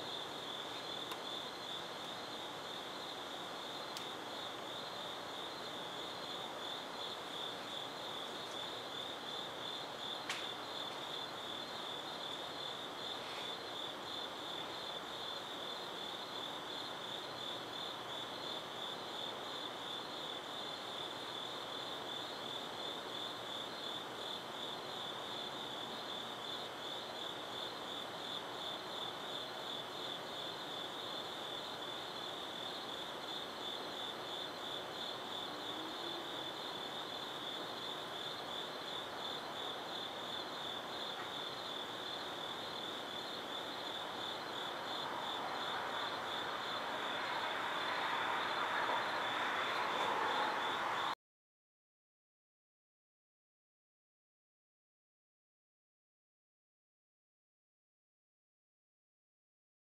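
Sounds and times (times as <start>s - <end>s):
crickets chirping: 0.0s - 51.2s.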